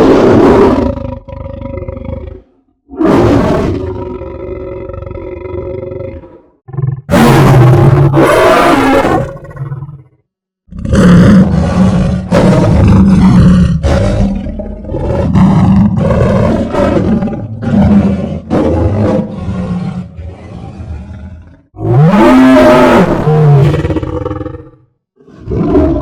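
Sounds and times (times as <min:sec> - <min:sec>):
lion roaring: 0:00.0 - 0:26.0.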